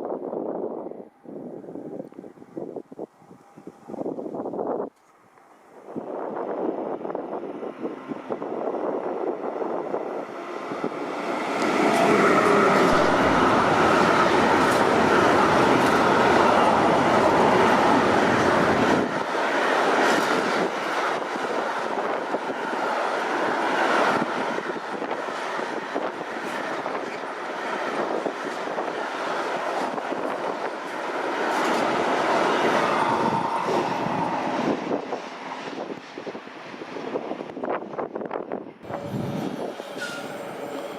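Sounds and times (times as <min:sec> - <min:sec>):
train passing rumble: 0:00.3 - 0:40.9.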